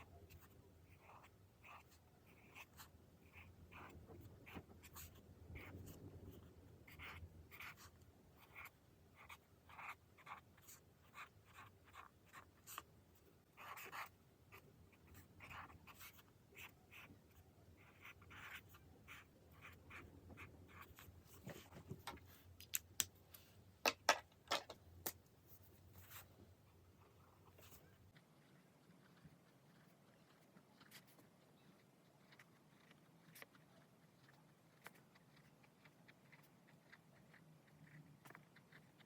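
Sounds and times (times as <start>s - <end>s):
pen scratching on paper: 0.0s - 12.9s, 13.5s - 22.0s, 25.5s - 26.3s, 27.0s - 39.0s.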